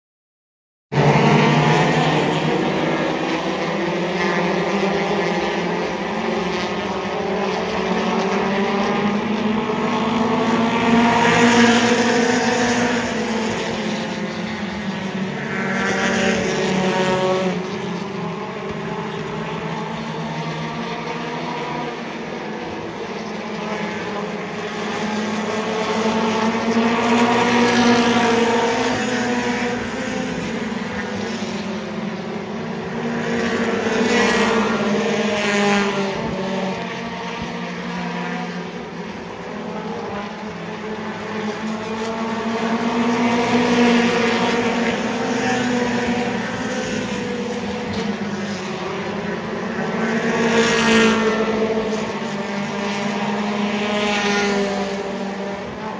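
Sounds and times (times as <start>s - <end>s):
race car engines racing: 0.9s - 55.9s.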